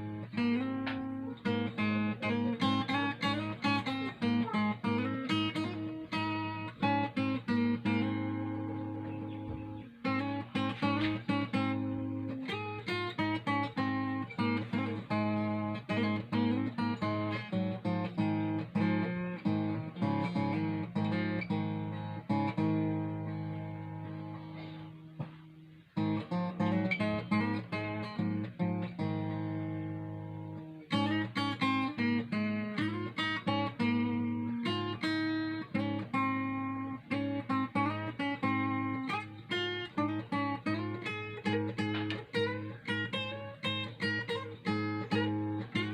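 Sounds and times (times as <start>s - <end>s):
acoustic guitar picking: 0.0s - 45.9s.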